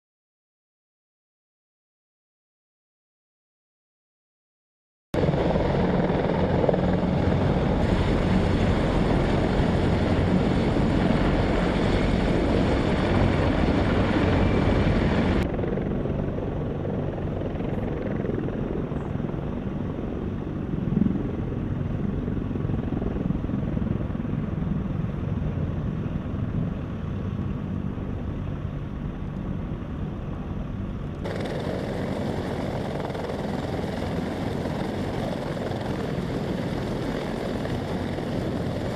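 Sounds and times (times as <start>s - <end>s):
aircraft engine and rotor noise: 5.2s - 38.9s.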